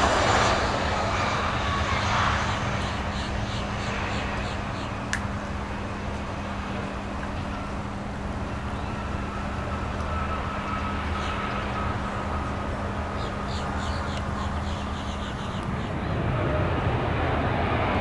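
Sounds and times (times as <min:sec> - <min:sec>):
faint high whine: 0:00.0 - 0:17.2
constant low hum: 0:00.0 - 0:18.0
distant engine rumble: 0:00.0 - 0:18.0.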